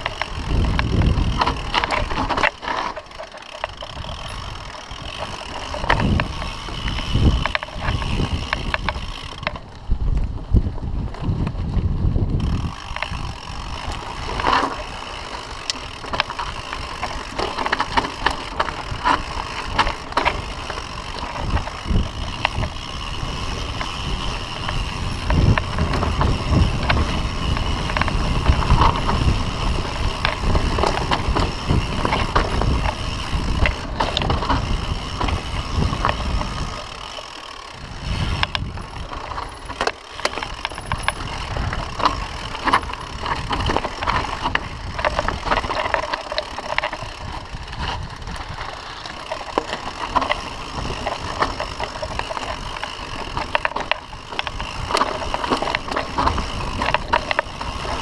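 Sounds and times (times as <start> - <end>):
bike rattling and knocking: 0.0 - 58.0
tyres crunching over dirt: 0.0 - 58.0.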